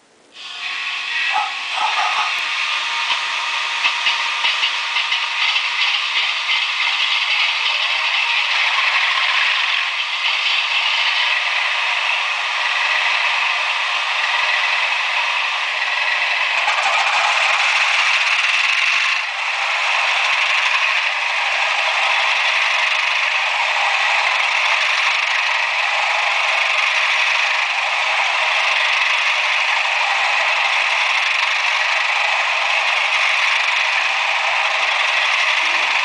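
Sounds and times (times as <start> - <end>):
model train diesel engine sounds: 0.0 - 36.0.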